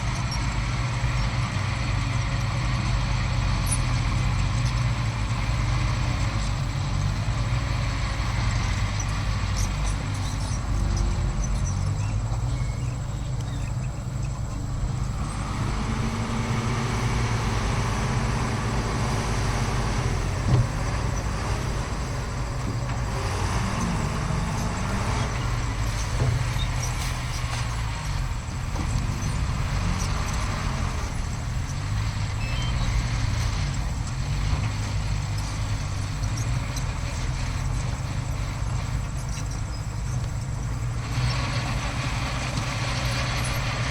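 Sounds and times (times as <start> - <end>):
diesel engine of earthmover: 0.0 - 43.9.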